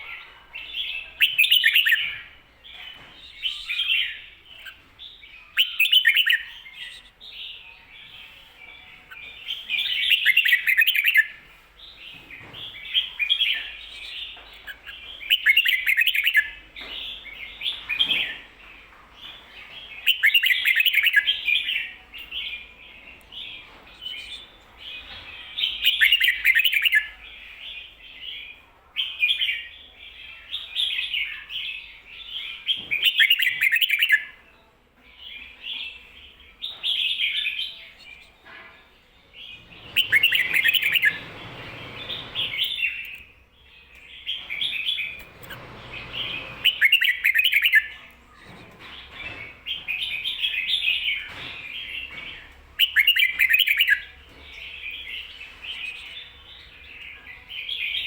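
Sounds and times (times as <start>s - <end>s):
bird singing warbled phrases: 0.0s - 34.4s, 39.3s - 58.0s.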